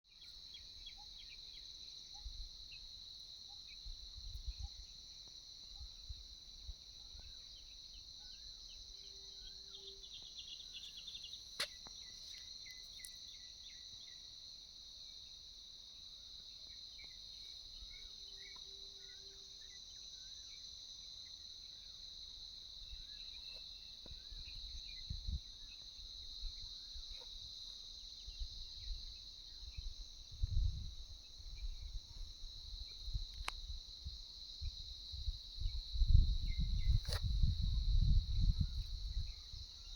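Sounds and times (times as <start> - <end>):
insects chirping: 0.1 - 39.9.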